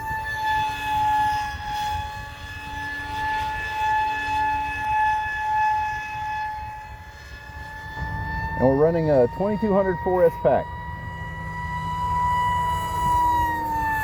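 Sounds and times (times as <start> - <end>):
rc plane motor whining: 0.0 - 14.0
wind rumble on microphone: 0.0 - 14.0.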